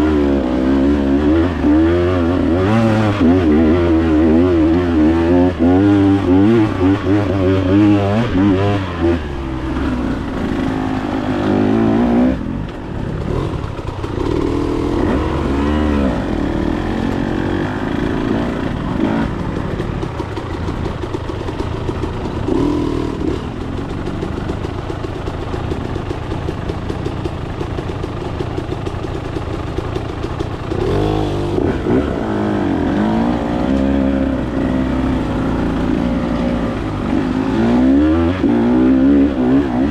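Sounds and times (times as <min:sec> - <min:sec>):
dirt bike engine revving: 0:00.0 - 0:24.7, 0:30.2 - 0:39.9.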